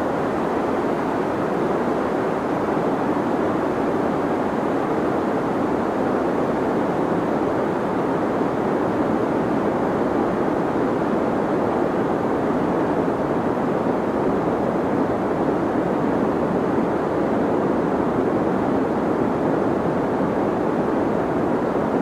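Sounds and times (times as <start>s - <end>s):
deep white noise hiss: 0.0s - 22.0s.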